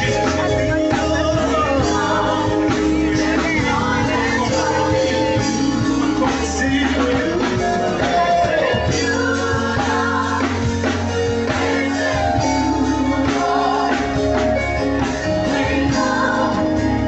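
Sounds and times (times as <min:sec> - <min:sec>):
choir singing gospel: 0:00.0 - 0:17.0
guitar and band accompaniment: 0:00.0 - 0:17.0.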